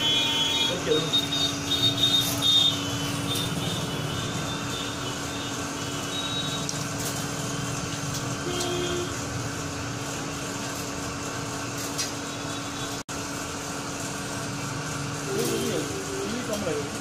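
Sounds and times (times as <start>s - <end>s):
machine mechanical drone: 0.0s - 17.0s
steady electric hum: 0.0s - 17.0s.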